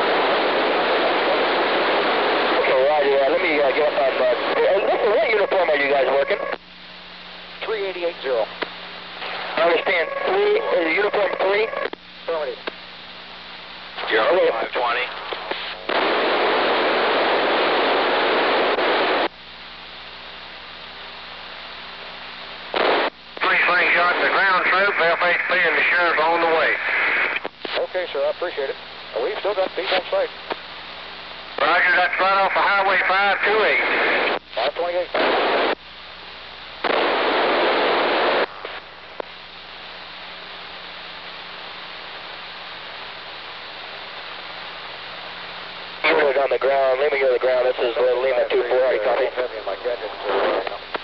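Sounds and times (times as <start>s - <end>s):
quiet steady hum: 0.0s - 51.0s
radio static hiss: 0.0s - 51.0s.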